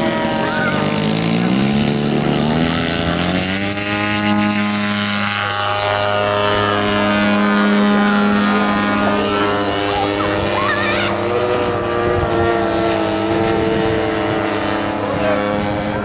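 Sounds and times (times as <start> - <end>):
model airplane engine at full power: 0.0 - 16.0.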